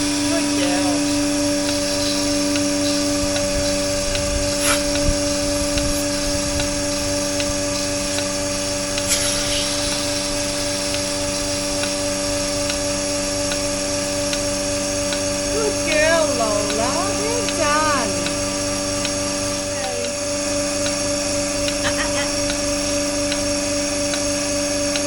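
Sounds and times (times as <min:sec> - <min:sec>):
vacuum pump motor hum: 0:00.0 - 0:25.0.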